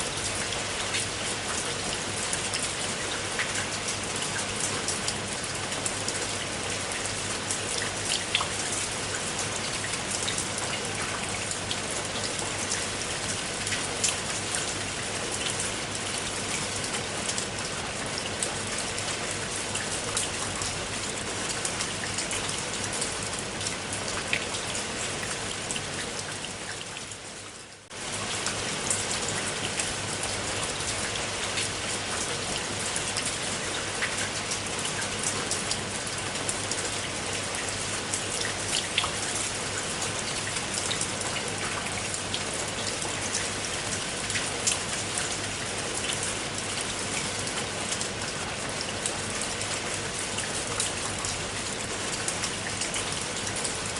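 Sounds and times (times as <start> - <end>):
rain drops ticking on a surface: 0.0 - 53.9.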